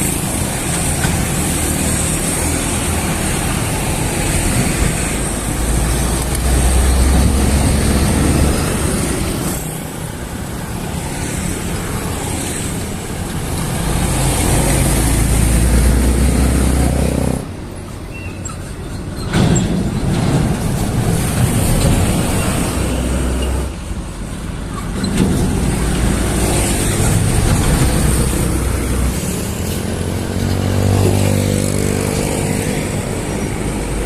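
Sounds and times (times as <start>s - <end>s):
heavy vehicle engine hum: 0.0s - 34.0s
road traffic passing: 0.0s - 34.0s.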